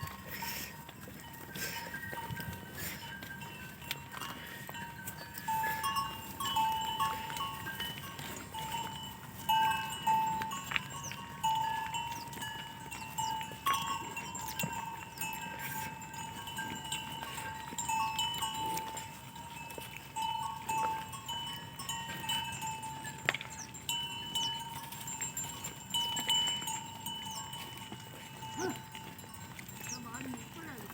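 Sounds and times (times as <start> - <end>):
metal neck bells ringing: 0.0 - 30.9.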